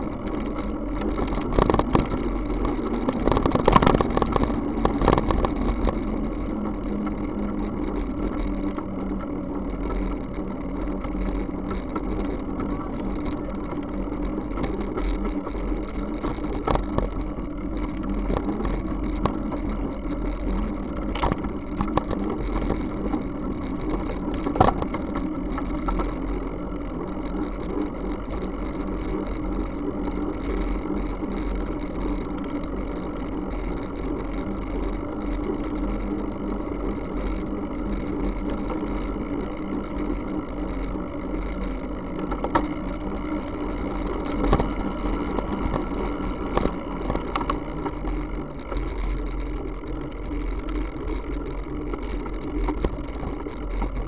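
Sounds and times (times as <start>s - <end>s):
tyres rolling on wet asphalt: 0.0s - 54.0s.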